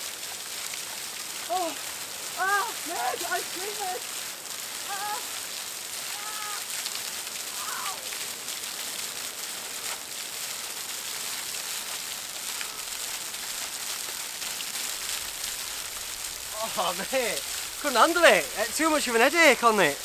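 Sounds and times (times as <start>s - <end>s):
waterfall spattering onto rocks: 0.0s - 20.0s.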